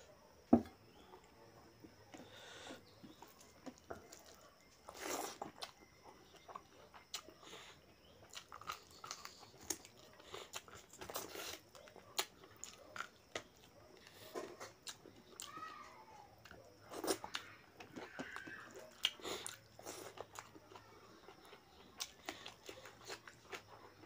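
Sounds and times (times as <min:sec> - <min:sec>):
chewing: 0:01.2 - 0:15.6, 0:16.3 - 0:24.0.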